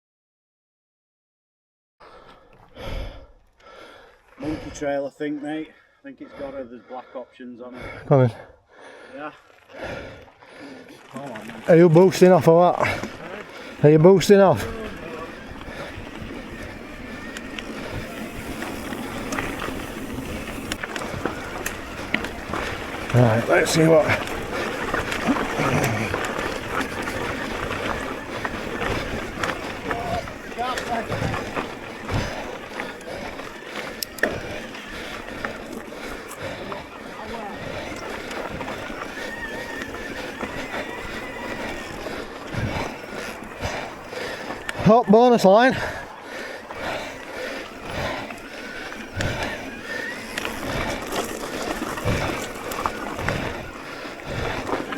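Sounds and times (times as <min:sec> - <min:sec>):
bike tyres rolling on dirt: 0:02.1 - 0:06.6, 0:07.7 - 0:54.9
bike clicks and rattles: 0:10.9 - 0:54.9.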